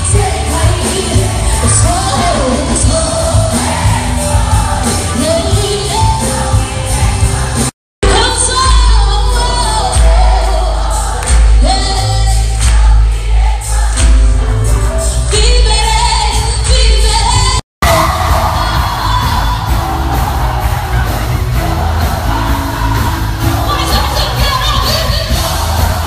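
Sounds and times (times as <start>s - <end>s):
amplified pop band with singer: 0.0s - 26.0s.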